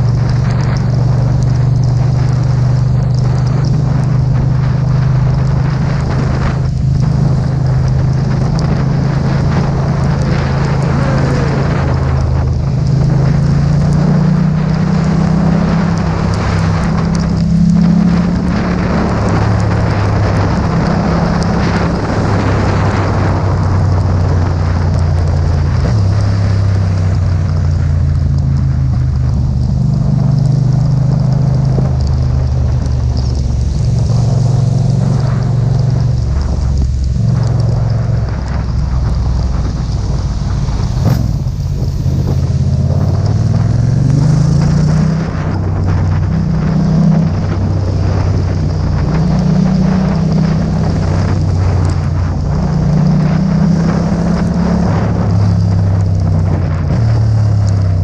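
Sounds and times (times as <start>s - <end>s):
motorcycle engine revving: 0.0s - 58.0s
rain hiss: 0.0s - 58.0s
wet road spray: 0.0s - 58.0s
wind: 0.0s - 58.0s.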